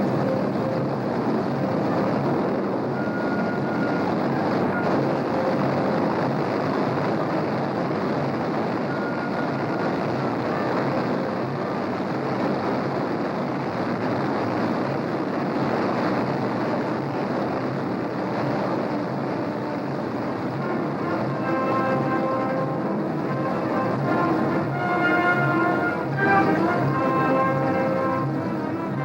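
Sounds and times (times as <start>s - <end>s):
piston aircraft engines droning: 0.0s - 29.0s.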